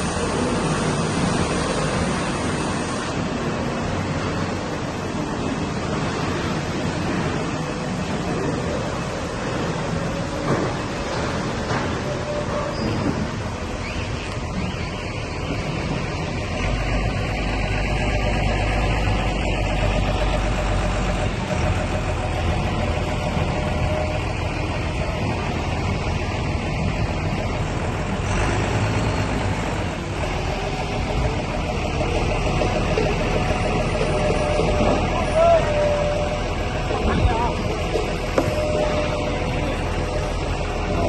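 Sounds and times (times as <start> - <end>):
vehicle engine rumbling: 0.0 - 41.0.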